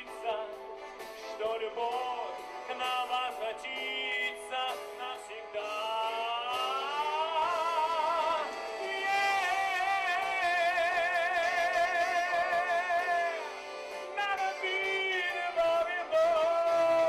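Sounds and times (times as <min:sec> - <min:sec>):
musical accompaniment: 0:00.0 - 0:17.0
melody with strong vibrato: 0:00.9 - 0:17.0.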